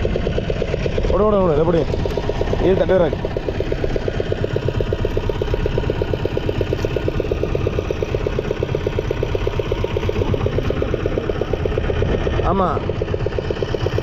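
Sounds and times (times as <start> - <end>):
small boat engine running: 0.0 - 14.0.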